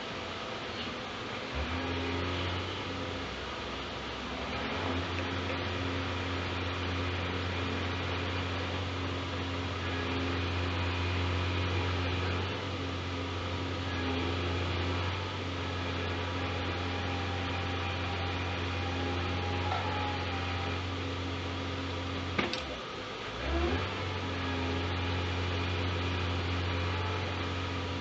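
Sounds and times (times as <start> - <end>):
truck diesel engine droning: 0.0 - 28.0.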